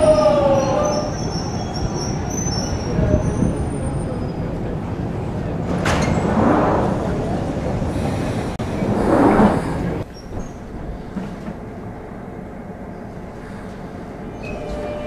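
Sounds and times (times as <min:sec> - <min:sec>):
train and platform rumble: 0:00.0 - 0:15.0
train carriage hum: 0:00.0 - 0:15.0.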